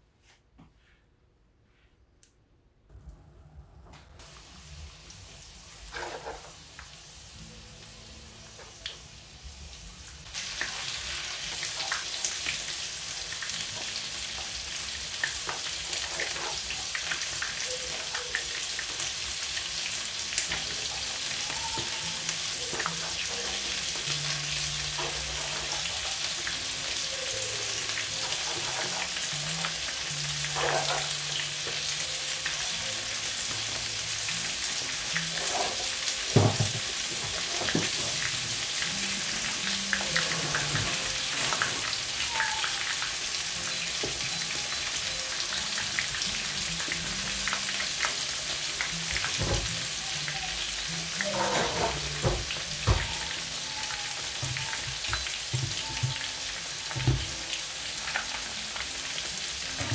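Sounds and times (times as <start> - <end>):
chicken deep-frying in oil: 4.2 - 59.9.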